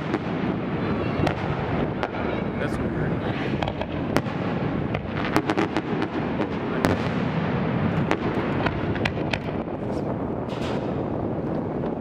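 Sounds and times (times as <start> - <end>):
fireworks bursting and cracking: 0.0 - 12.0.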